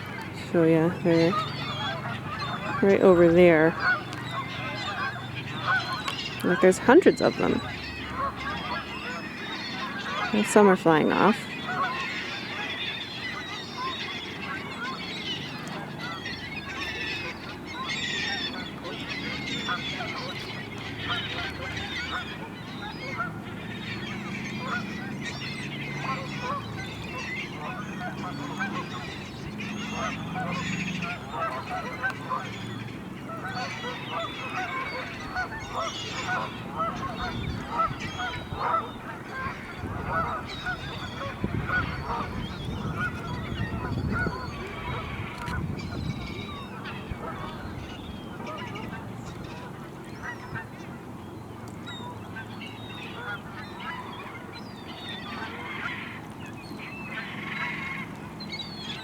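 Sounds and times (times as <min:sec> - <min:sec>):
waterbirds calling: 0:00.0 - 0:59.0.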